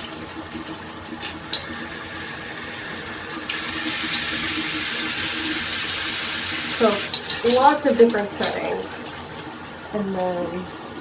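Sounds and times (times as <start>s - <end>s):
shower head spraying water: 0.0s - 10.7s.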